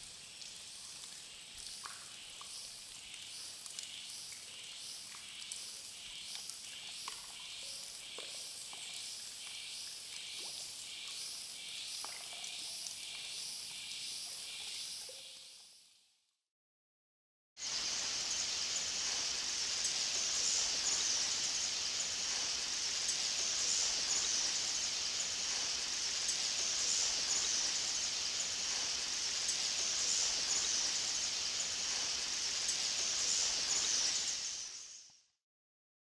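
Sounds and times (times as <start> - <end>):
dense insect chorus: 0.0 - 15.8, 17.6 - 35.1.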